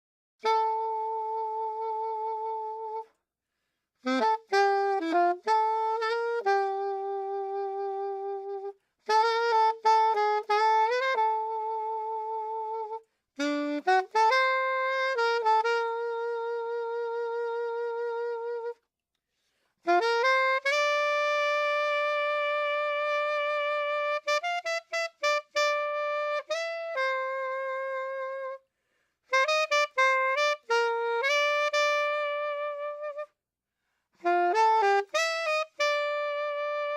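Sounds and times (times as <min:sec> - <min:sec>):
solo melody line: 0:00.4 - 0:03.2, 0:04.0 - 0:18.8, 0:19.8 - 0:28.6, 0:29.4 - 0:33.3, 0:34.2 - 0:36.9.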